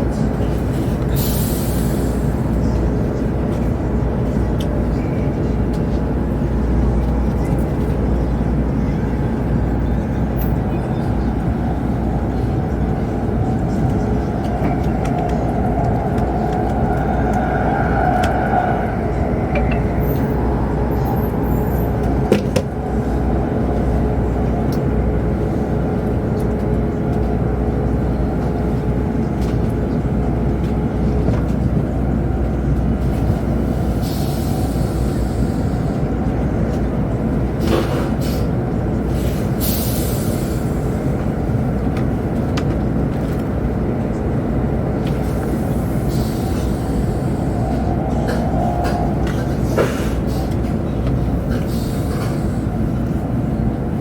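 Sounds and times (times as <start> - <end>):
train rumble inside cabin: 0.0 - 54.0.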